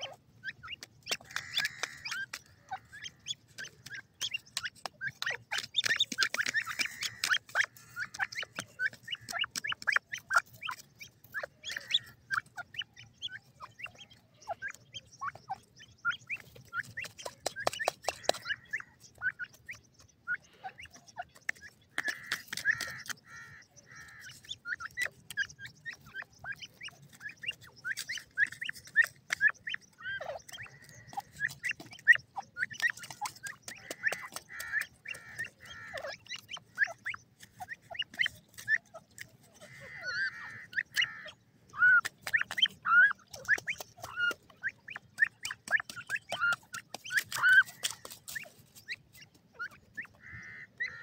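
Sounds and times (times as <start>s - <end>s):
young birds chirping: 0.0s - 51.0s.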